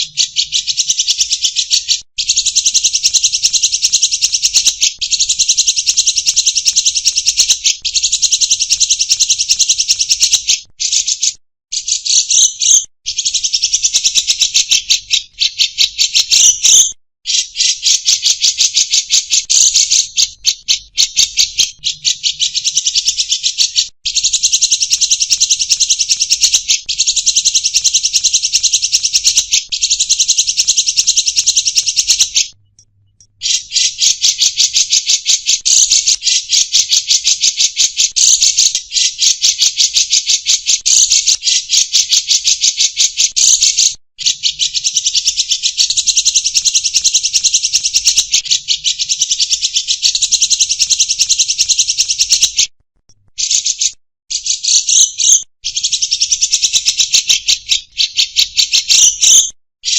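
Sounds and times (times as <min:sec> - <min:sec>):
songbirds trilling: 0:00.0 - 0:52.6, 0:53.4 - 0:59.9.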